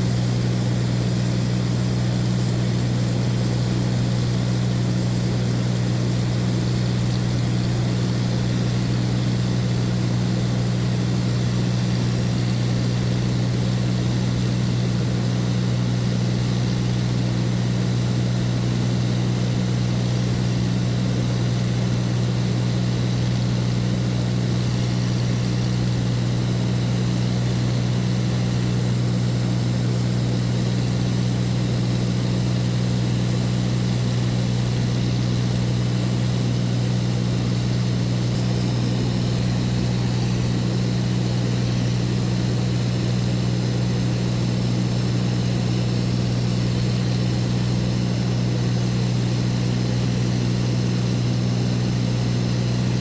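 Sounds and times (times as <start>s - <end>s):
propeller aircraft drone in cabin: 0.0s - 53.0s.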